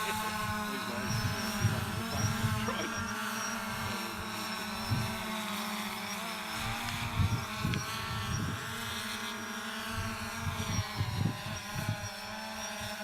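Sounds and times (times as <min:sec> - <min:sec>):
wind buffeting microphone: 0:00.0 - 0:05.3, 0:06.6 - 0:09.0, 0:09.9 - 0:13.0
model aircraft motor whine: 0:00.0 - 0:13.0.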